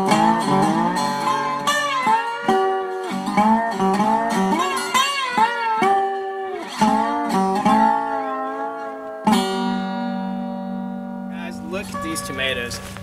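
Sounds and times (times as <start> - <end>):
ringing plucked chord: 0.0 - 12.8
plucked-string melody: 0.0 - 13.0.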